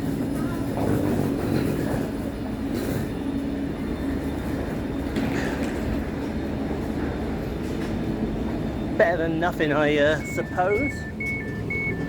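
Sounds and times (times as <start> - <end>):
constant hum: 0.0 - 12.0
train rumbling: 0.0 - 12.0.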